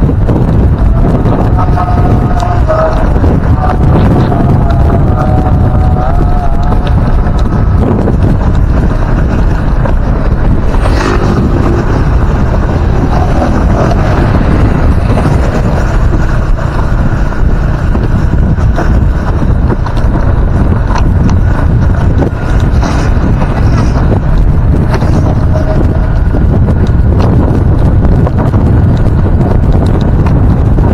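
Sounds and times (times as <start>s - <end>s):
motorbike engine running: 0.0s - 30.9s
tyres on road: 0.0s - 30.9s
wind buffeting microphone: 0.0s - 30.9s.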